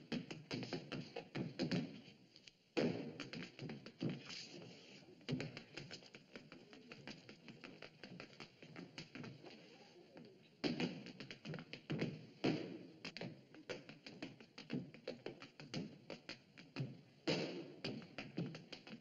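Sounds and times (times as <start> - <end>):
tap shoes stamping on stage floor: 0.0 - 2.0, 2.8 - 4.3, 5.2 - 9.6, 10.6 - 19.0.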